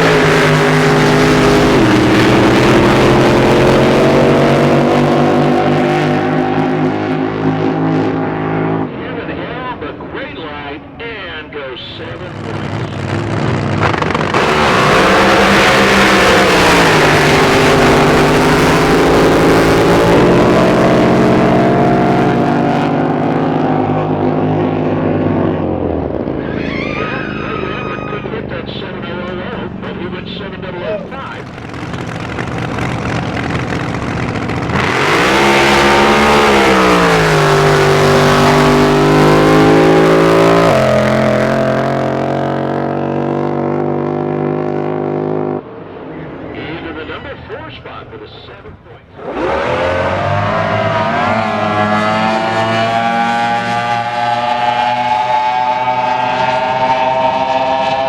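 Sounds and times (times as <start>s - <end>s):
racing boat engine: 0.0s - 58.0s.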